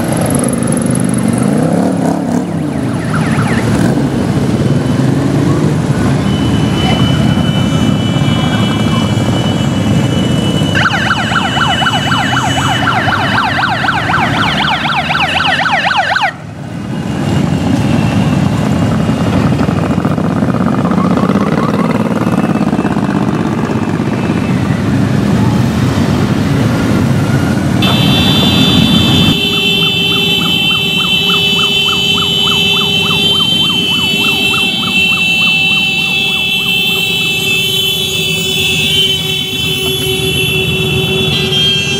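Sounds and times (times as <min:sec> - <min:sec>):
motorcycle engines rumbling: 0:00.0 - 0:41.9
yelping siren: 0:01.3 - 0:18.8, 0:20.6 - 0:25.7, 0:27.3 - 0:41.9.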